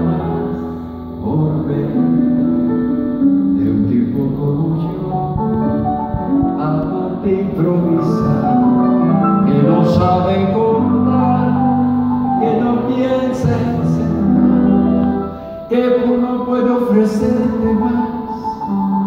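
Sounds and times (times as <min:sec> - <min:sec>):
live piano and band ballad: 0:00.0 - 0:19.0.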